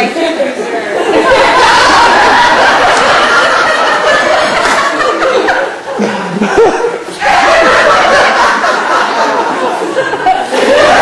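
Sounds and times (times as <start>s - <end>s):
crowd laughing: 0.8s - 11.0s.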